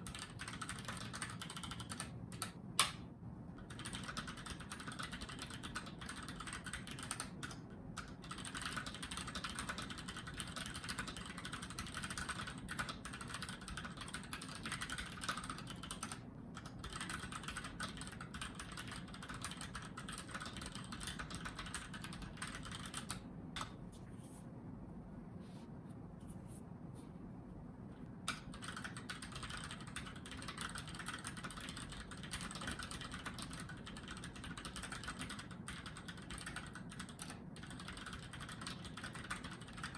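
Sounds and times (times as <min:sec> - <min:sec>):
mechanical keyboard typing: 0:00.0 - 0:03.0, 0:03.6 - 0:23.7, 0:28.3 - 0:39.9.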